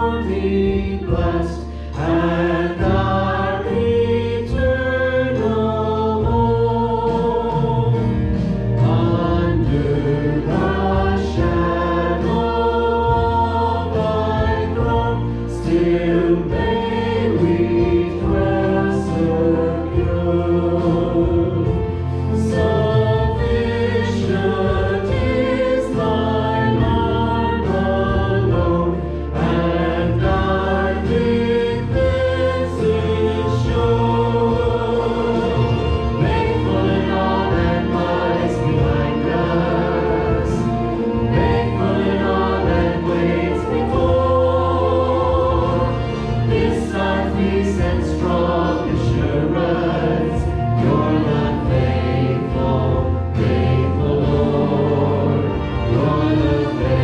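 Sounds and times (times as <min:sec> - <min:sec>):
instrumental accompaniment: 0:00.0 - 0:57.0
vocal ensemble singing a hymn: 0:00.0 - 0:57.0.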